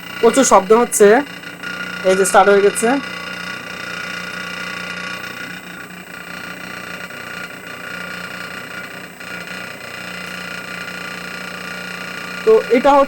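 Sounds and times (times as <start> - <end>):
refrigerator compressor humming: 0.0 - 13.0.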